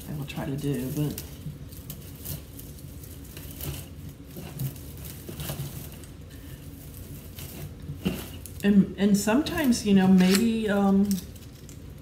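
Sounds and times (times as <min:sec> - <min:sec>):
artificial greenery rustling: 0:00.0 - 0:12.0.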